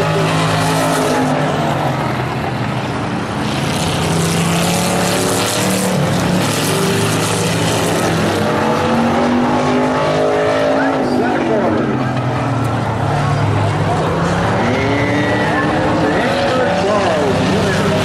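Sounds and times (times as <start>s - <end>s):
race car engines running hard: 0.0s - 18.0s.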